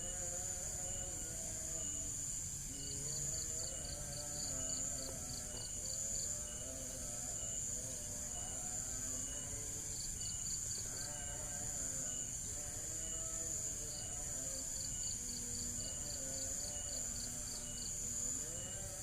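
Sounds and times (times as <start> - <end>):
insects droning: 0.0 - 19.0
rhythmic insect chirping: 0.0 - 19.0.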